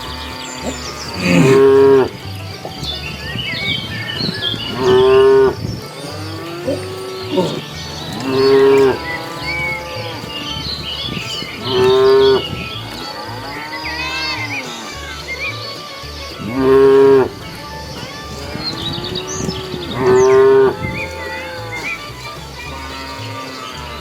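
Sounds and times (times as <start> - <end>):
cows mooing: 0.0 - 15.4, 16.2 - 24.0.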